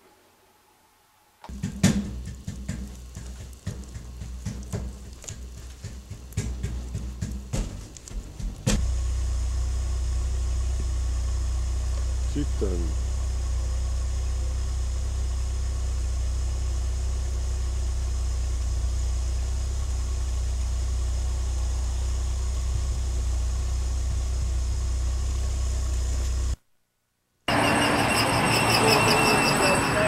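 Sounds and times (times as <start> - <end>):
low mechanical hum: 0.0 - 26.6.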